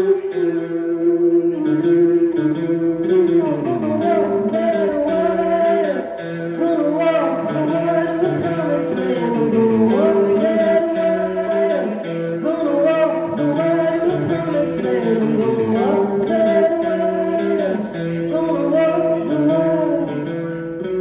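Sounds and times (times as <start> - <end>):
electric guitar: 0.0 - 21.0
person singing long notes: 0.0 - 21.0.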